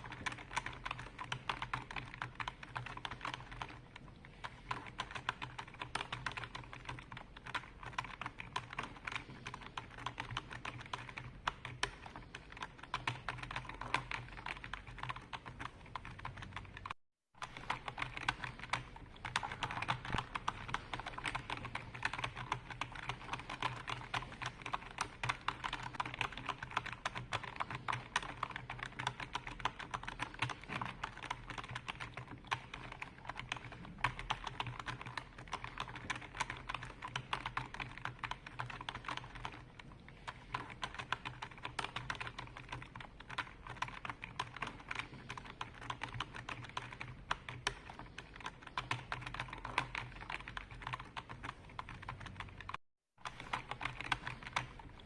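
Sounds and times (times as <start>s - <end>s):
fast typing on keyboard: 0.0s - 55.0s.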